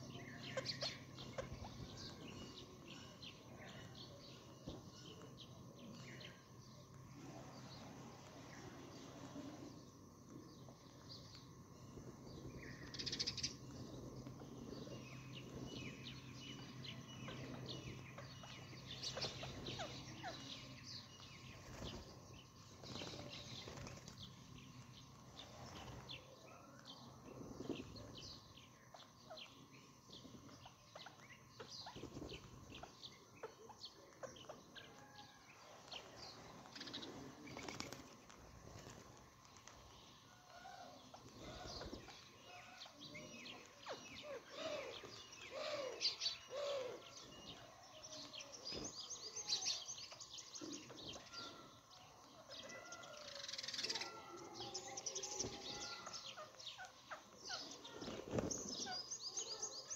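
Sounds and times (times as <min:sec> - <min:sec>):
birds chirping and calling: 0:00.0 - 0:59.9
faint steady hum: 0:00.0 - 0:59.9.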